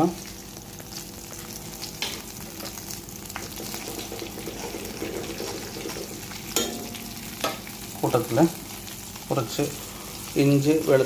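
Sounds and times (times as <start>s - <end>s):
oil popping and crackling: 0.0s - 9.4s
seeds sizzling in hot oil: 0.0s - 11.0s.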